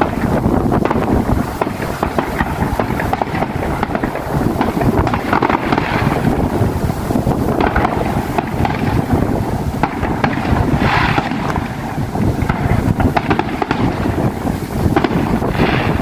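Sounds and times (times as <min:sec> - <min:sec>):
distant fireworks crackling: 0:00.0 - 0:16.0
wind buffeting microphone: 0:00.0 - 0:16.0.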